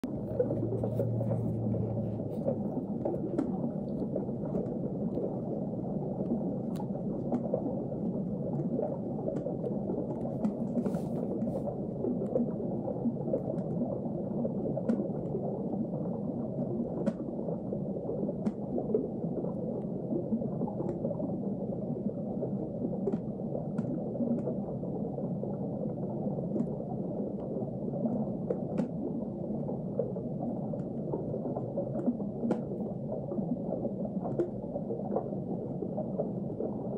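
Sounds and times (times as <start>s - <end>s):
underwater water noise: 0.0s - 36.9s.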